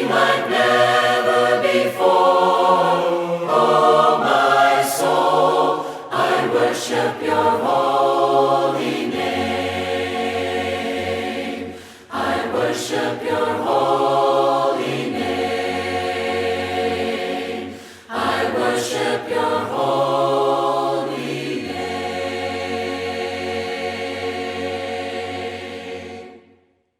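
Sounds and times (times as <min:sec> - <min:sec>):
choir singing in harmony: 0:00.0 - 0:26.8.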